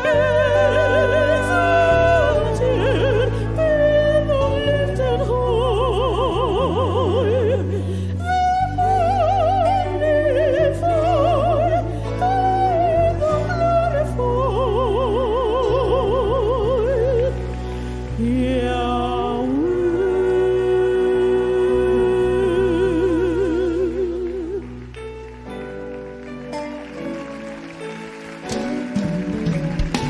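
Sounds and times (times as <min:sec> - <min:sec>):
operatic wordless singing: 0:00.0 - 0:24.9.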